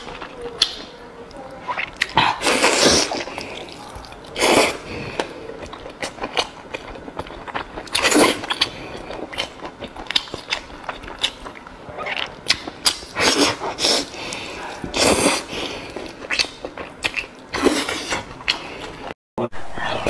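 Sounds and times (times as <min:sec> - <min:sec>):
wet mouth clicks and chewing: 0:01.7 - 0:19.1.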